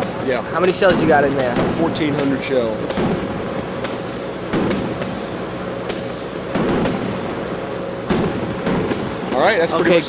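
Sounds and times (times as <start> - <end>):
firecracker pops: 0.0 - 7.3, 8.0 - 9.9
generator humming: 0.0 - 10.0.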